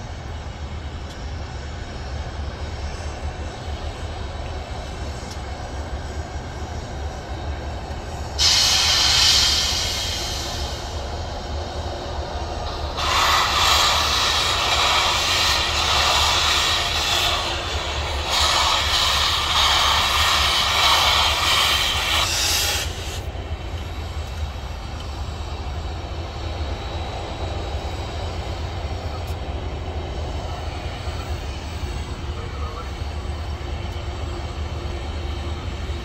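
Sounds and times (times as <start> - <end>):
passing train rumble: 0.0 - 36.0.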